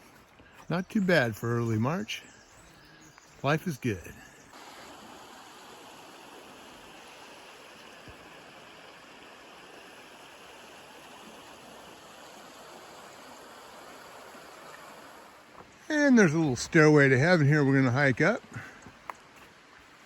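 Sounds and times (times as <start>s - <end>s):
faint steady rushing noise: 3.4s - 20.0s.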